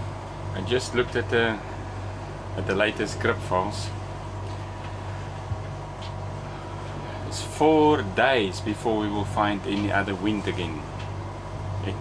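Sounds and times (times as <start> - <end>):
low hum of boat machinery: 0.0 - 12.0.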